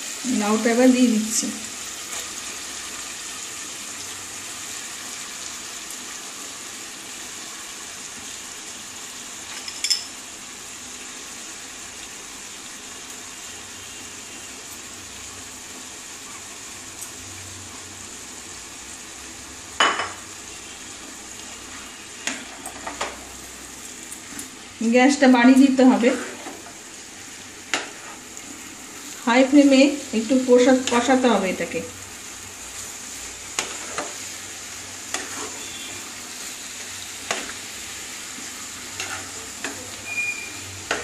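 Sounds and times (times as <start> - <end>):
paste sizzling in hot oil: 0.0 - 41.0.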